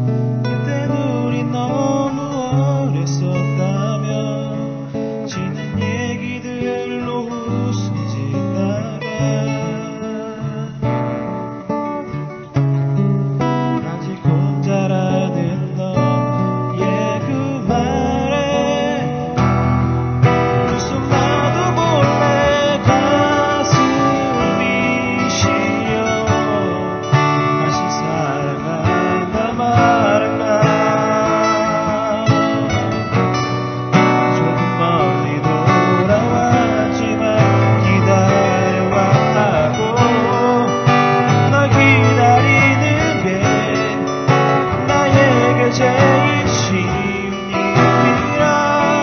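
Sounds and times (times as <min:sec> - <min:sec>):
person singing a ballad: 0:00.0 - 0:12.7, 0:13.3 - 0:49.0
acoustic guitar strumming: 0:00.0 - 0:49.0.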